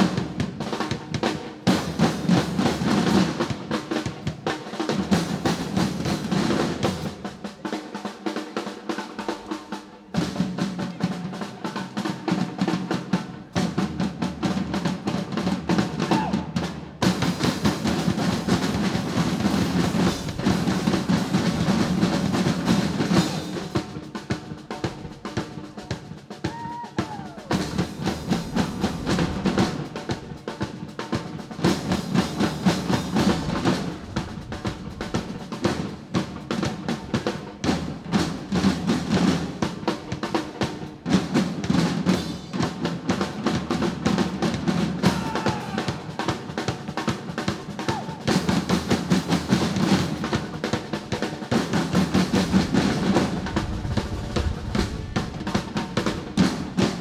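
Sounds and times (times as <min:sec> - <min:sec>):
drum kit: 0:00.0 - 0:57.0
snare drums played with sticks: 0:00.0 - 0:57.0.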